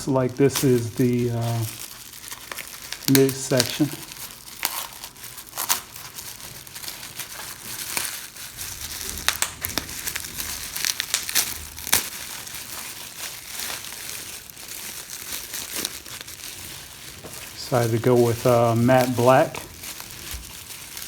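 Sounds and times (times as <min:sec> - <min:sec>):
packaging wrap crinkling: 0:00.0 - 0:21.0.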